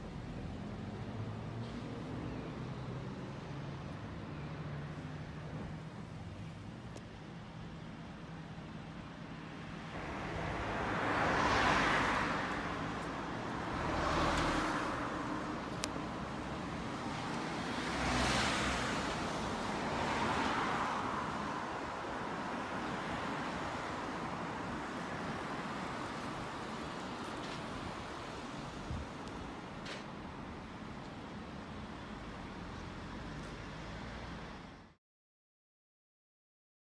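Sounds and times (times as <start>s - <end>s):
cars passing by: 0.0s - 35.0s
traffic hum: 0.0s - 35.0s.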